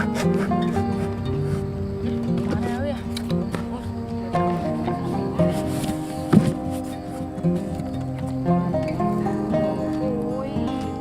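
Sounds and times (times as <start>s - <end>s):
background music sustained notes: 0.0s - 11.0s.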